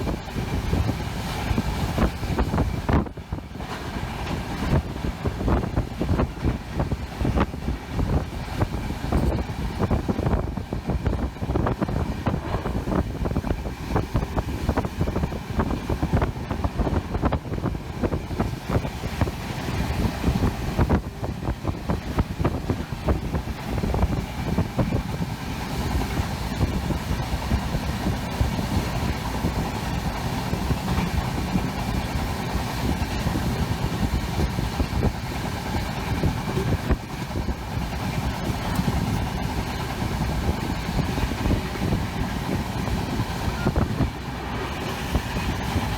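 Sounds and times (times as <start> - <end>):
train rattling and clatter: 0.0 - 45.9
train rumbling on track: 0.0 - 45.9.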